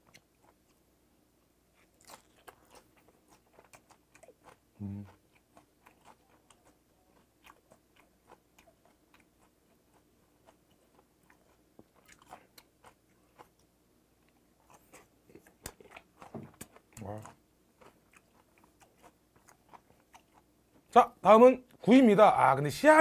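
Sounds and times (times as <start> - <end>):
person chewing: 0.0 - 0.8, 1.7 - 20.9.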